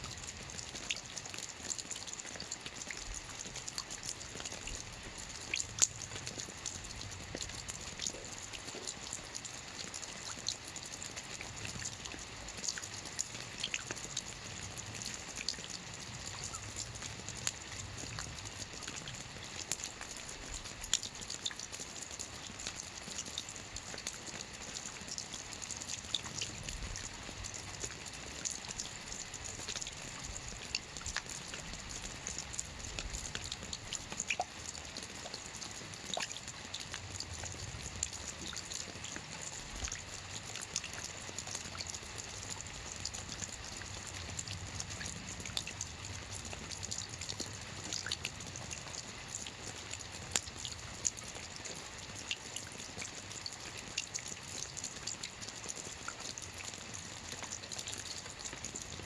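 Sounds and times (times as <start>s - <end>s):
rain falling on a lake: 0.0s - 59.0s.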